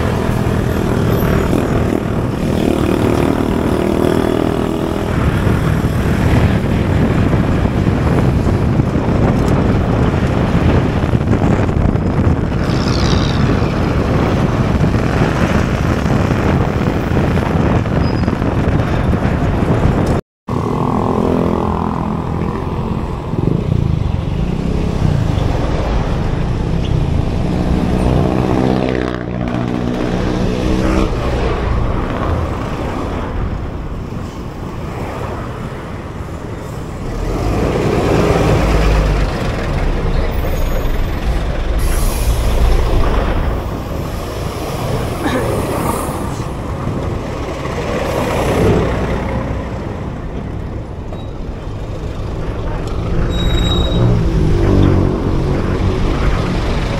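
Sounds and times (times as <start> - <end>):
vehicle engines passing: 0.0 - 56.9.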